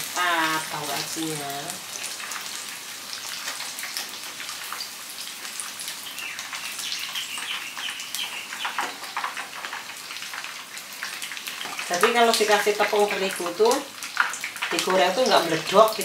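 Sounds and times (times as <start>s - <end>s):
tofu deep-frying in sizzling oil: 0.0s - 16.0s.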